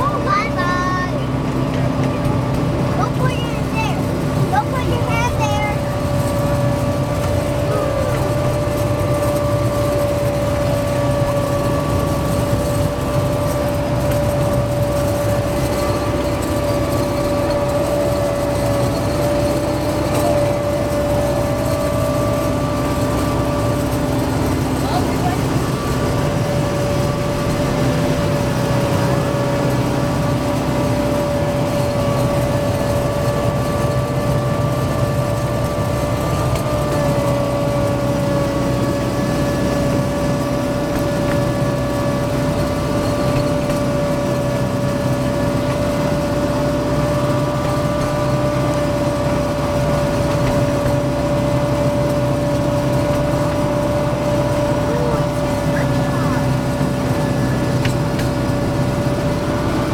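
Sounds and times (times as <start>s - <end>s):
miniature train rumbling: 0.0s - 59.9s
steady whine: 0.0s - 59.9s.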